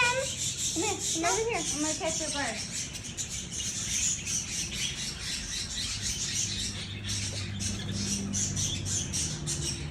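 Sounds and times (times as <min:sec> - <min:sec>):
many birds chirping and squawking: 0:00.0 - 0:09.9.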